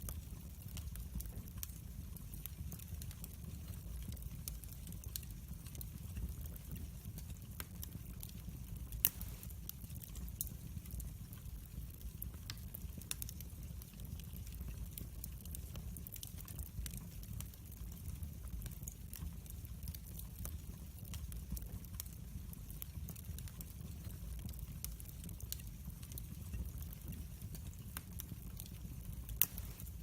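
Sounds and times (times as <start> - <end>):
fire popping: 0.0 - 30.0
low rumble of flames: 0.0 - 30.0
wood fire crackling: 0.0 - 30.0.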